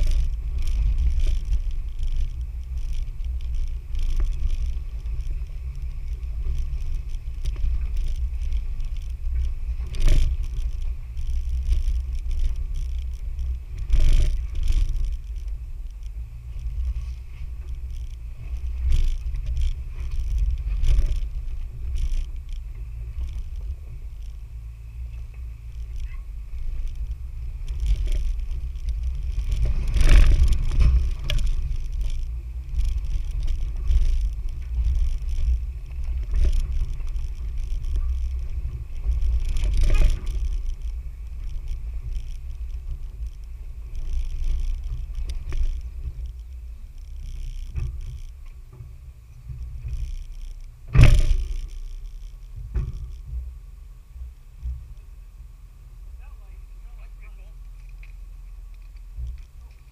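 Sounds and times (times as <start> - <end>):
vehicle knocks and jolts over bumps: 0.0 - 56.3
off-road vehicle engine rumble: 0.0 - 59.9.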